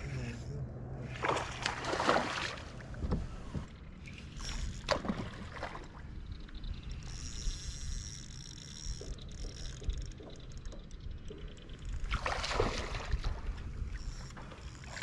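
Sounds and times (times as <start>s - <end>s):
water splashing and sloshing: 1.0s - 15.0s.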